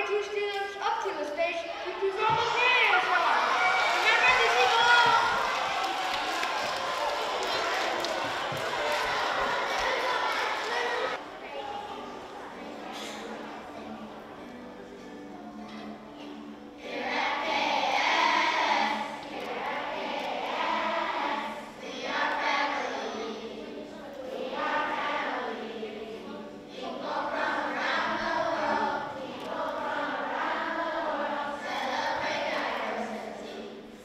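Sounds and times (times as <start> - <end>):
children singing together: 5.1 - 34.0.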